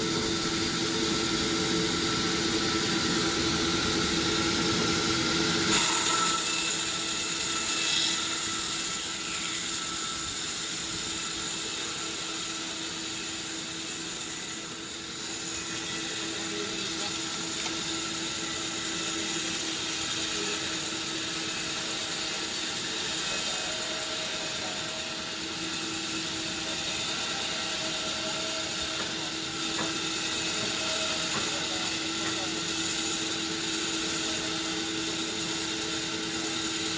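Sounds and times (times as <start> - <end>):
sawmill machinery whining and humming: 0.0 - 36.9.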